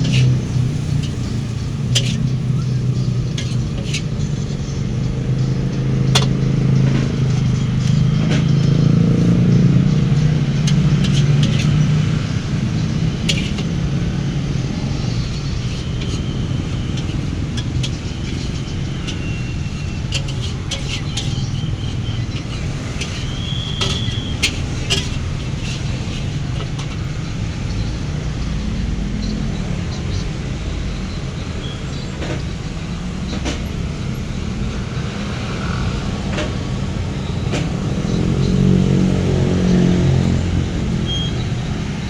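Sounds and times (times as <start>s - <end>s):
vehicle passing by: 0.0s - 30.1s, 33.0s - 42.0s
road traffic: 0.0s - 42.0s.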